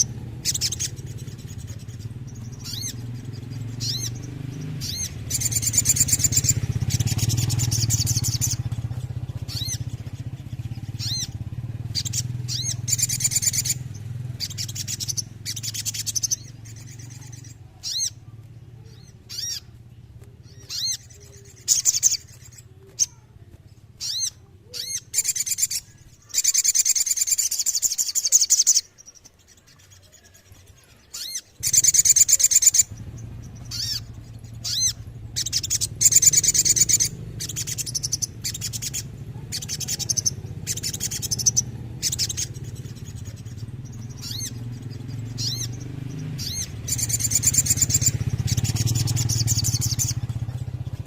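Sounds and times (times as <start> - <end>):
bird singing trilled rolls: 0.0 - 51.0.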